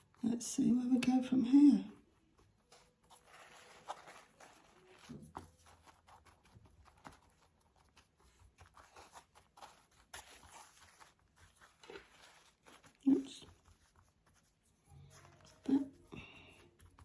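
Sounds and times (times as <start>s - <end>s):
brush tapping: 0.0s - 17.0s
tissue paper rustling: 1.8s - 17.0s.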